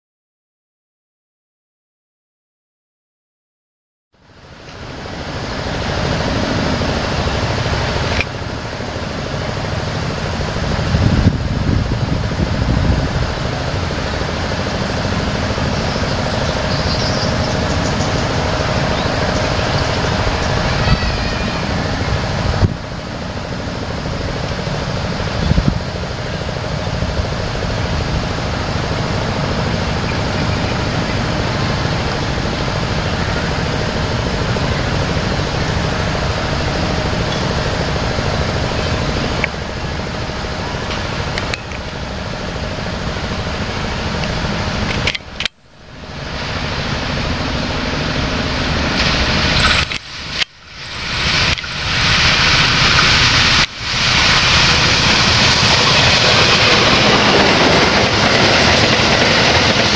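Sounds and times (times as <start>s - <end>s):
outdoor rumble and hiss: 4.2s - 59.9s.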